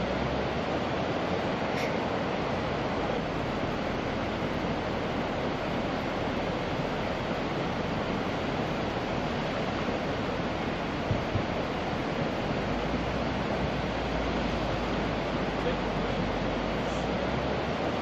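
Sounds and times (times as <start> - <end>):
fast-flowing floodwater: 0.0 - 18.0.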